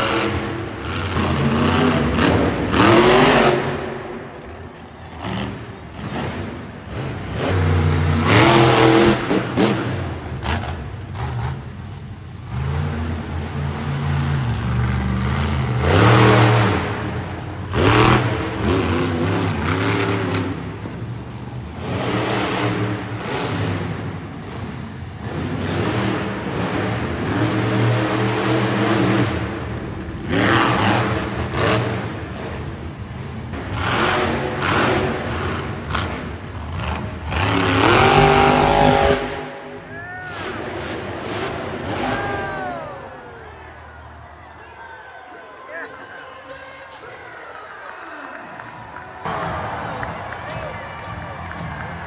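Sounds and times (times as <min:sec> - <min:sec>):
truck engines revving: 0:00.0 - 0:47.1, 0:48.0 - 0:52.0.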